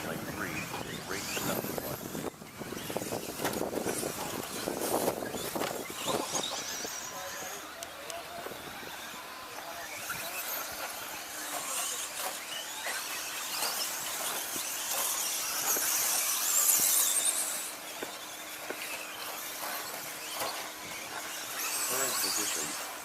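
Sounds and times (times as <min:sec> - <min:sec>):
rc truck motors whining: 0:00.0 - 0:23.0.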